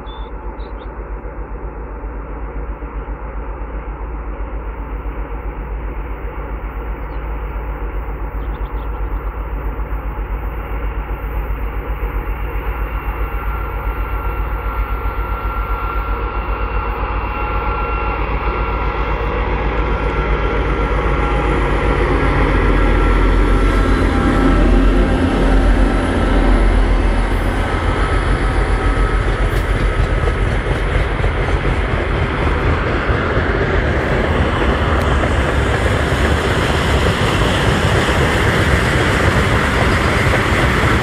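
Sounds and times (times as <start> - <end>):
diesel locomotive rumbling: 0.0 - 41.0.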